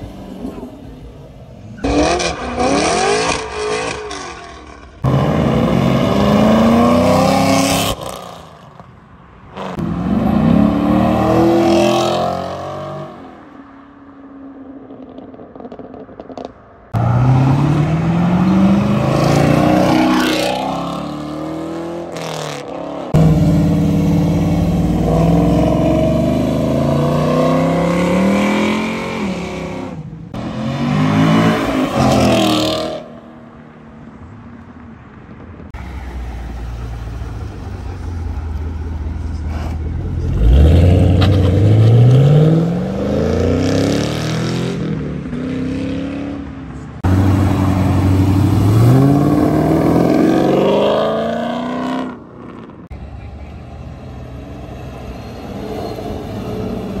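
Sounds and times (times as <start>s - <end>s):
car engines revving pulling away: 0.0s - 8.9s, 9.5s - 13.4s, 14.8s - 33.4s, 35.7s - 57.0s.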